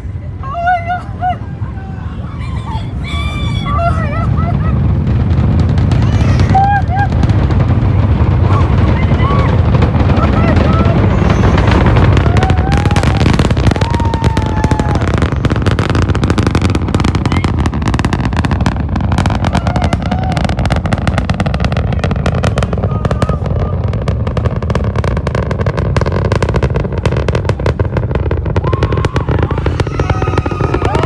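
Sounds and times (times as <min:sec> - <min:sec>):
rocket launch rumble: 0:01.4 - 0:31.0
rapid crackling: 0:03.7 - 0:31.0.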